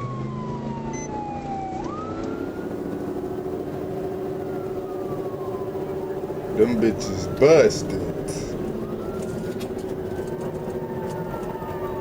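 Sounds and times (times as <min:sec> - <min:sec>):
police siren wailing: 0:00.0 - 0:12.0
vehicle engine and road noise: 0:00.0 - 0:12.0.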